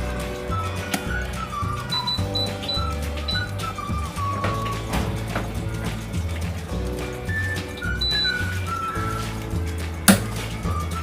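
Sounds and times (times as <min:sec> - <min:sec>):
background music with bass line: 0:00.0 - 0:11.0
light percussive hits: 0:00.0 - 0:11.0.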